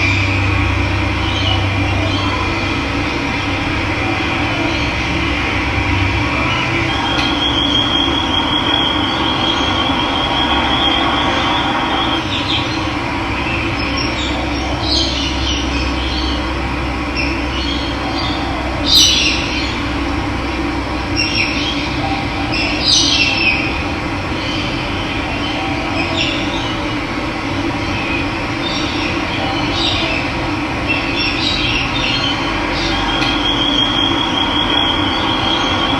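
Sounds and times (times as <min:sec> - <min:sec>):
birds trilling and chirping: 0:00.0 - 0:35.9.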